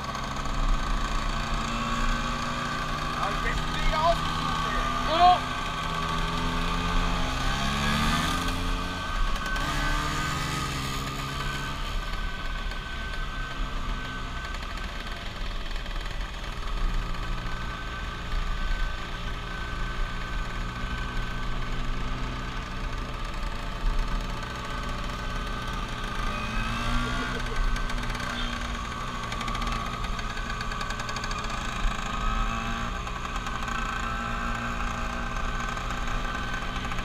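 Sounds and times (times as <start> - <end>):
scooter engine running: 0.0 - 37.0.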